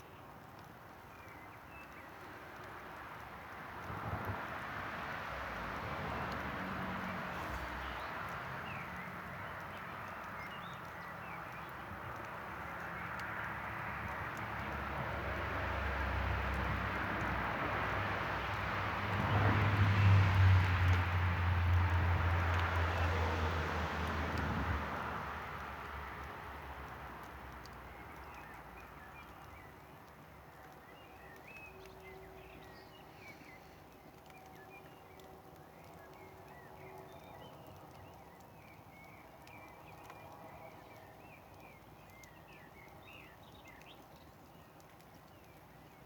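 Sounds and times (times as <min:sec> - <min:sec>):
faint fire crackles: 0:00.0 - 0:46.0.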